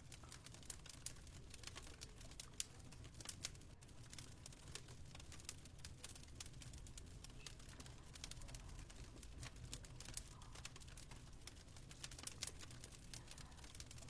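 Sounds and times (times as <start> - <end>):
faint wood fire crackling: 0.0 - 14.0.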